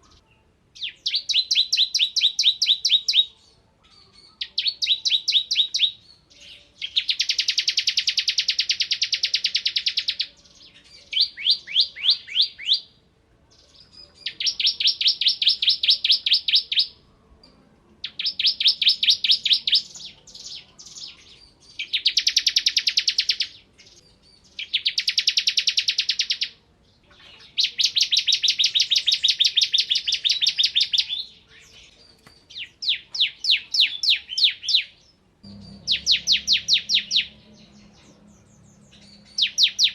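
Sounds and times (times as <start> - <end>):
bird singing rapid high trills: 0.0 - 12.9, 14.2 - 17.0, 18.0 - 26.6, 27.4 - 39.9.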